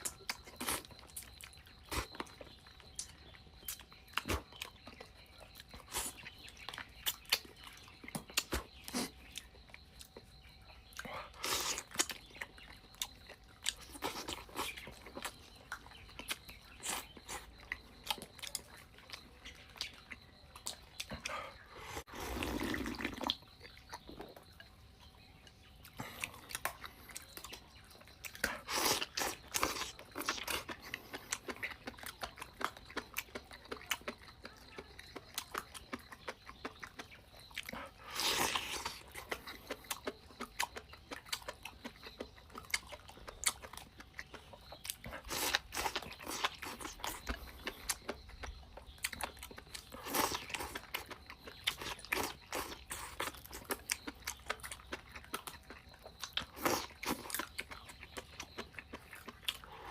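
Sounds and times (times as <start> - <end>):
person chewing and biting food: 0.0 - 10.2, 10.9 - 24.6, 25.8 - 59.9.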